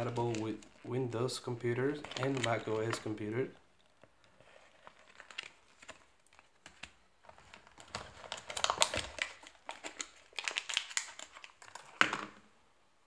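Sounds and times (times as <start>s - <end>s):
paper rustling: 0.0s - 1.1s, 1.7s - 3.4s, 4.2s - 12.3s
foil crinkling: 0.0s - 12.1s.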